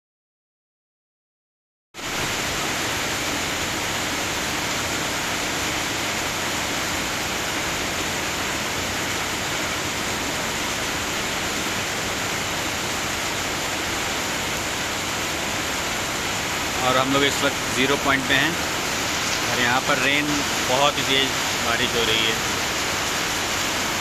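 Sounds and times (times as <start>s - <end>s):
heavy rain pouring: 2.0s - 24.0s.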